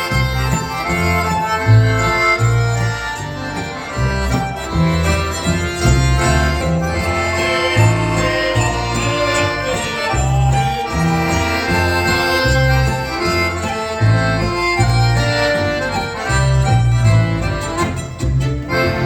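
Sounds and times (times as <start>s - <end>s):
accordion: 0.0s - 19.0s
bass line: 0.0s - 19.0s
guitar: 0.0s - 19.0s.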